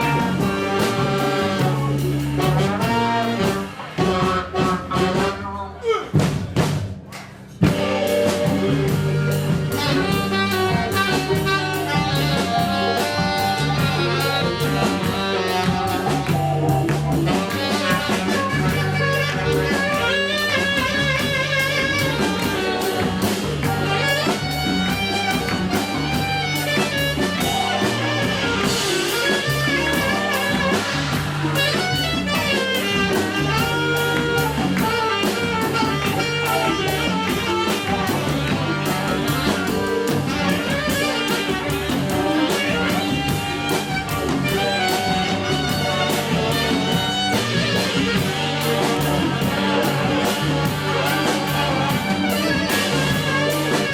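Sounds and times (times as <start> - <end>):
live jazz band playing: 0.0 - 53.9
repeating bass line: 7.6 - 53.9.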